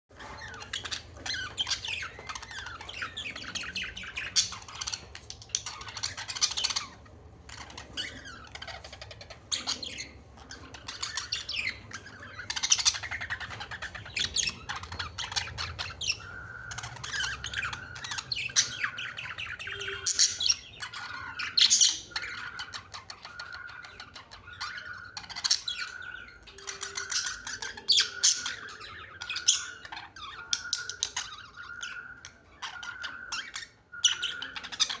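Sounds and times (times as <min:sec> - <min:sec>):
small birds chirping and squawking: 0:00.1 - 0:35.0.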